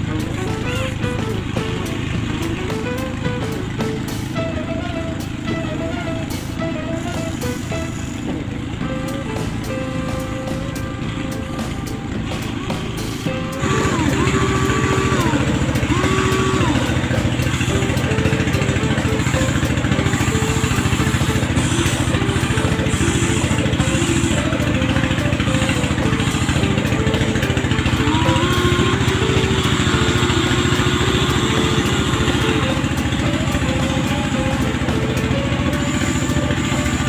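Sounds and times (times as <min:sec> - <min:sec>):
toy excavator motors whining: 0:00.0 - 0:37.0.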